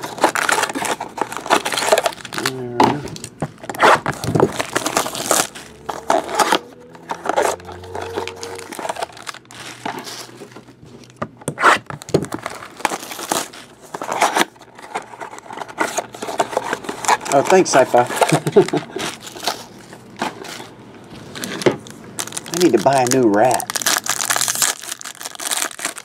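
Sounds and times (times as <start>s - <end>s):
foil wrapper crinkling and tearing: 0.0s - 26.0s.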